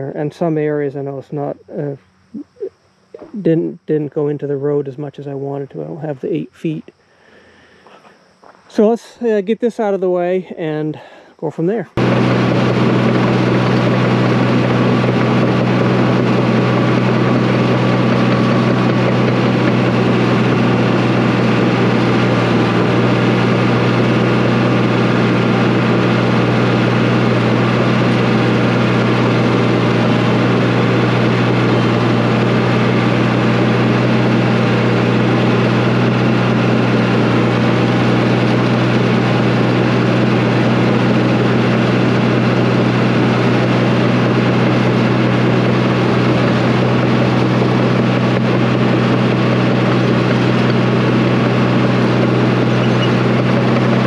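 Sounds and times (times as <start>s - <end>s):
diesel engine droning steadily: 0.0s - 54.0s.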